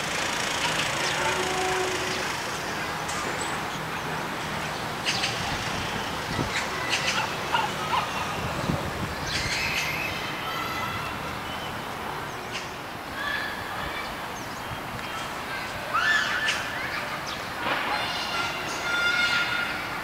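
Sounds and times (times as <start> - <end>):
city background noise: 0.0 - 20.0.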